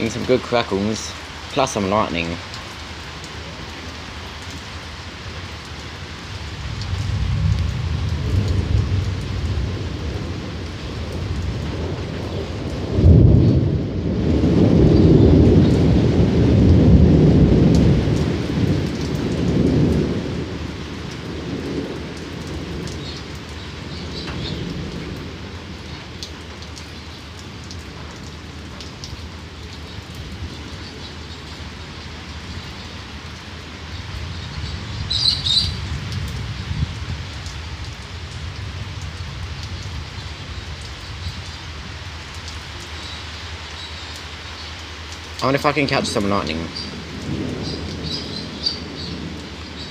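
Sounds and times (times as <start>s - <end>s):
thunder rumbling and crackling: 0.0s - 43.2s, 45.4s - 49.9s
steady rain: 0.0s - 49.9s.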